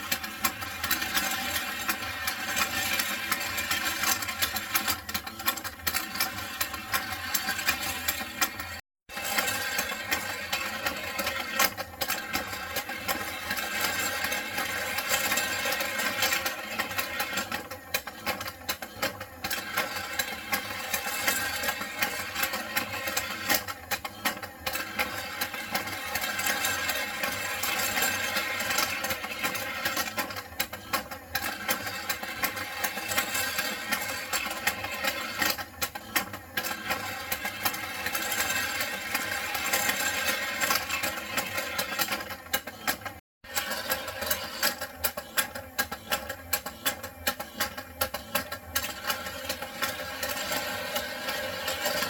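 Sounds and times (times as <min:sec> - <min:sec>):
toy motor and gears rattling: 0:00.0 - 0:52.0.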